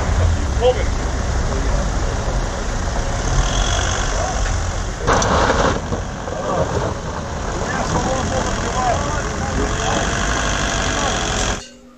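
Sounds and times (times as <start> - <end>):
vehicle engine rumbling: 0.0 - 11.7.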